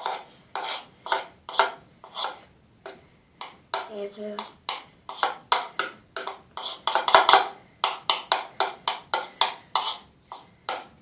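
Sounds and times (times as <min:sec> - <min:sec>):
spoon stirring slime in bowl: 0:00.0 - 0:11.0.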